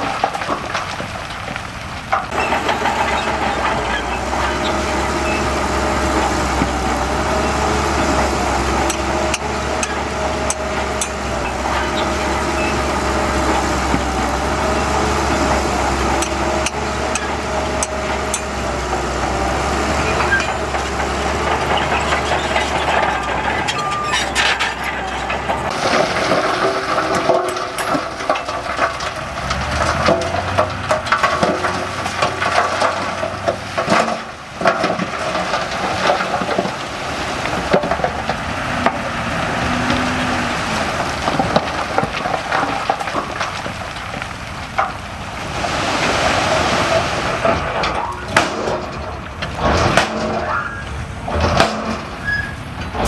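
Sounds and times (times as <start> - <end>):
diesel engine running: 0.0 - 53.0
knocks and clatter: 0.0 - 53.0
soil rushing and scraping: 0.0 - 53.0.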